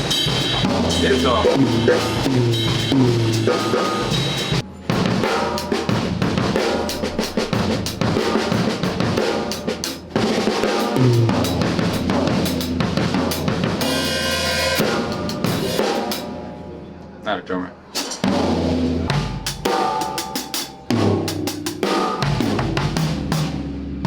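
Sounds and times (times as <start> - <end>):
drum kit playing: 0.0 - 16.6, 17.9 - 24.0.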